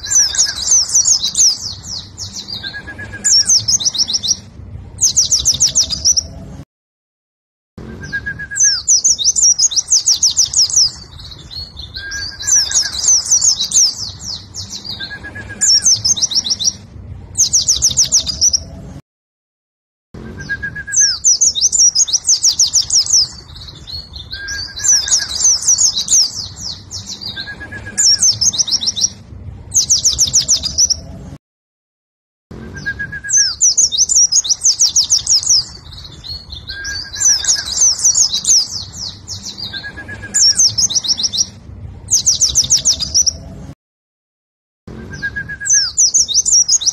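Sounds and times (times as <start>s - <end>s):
bird singing high trills: 0.0s - 6.5s, 7.8s - 18.8s, 20.2s - 31.2s, 32.6s - 43.5s, 44.9s - 46.9s.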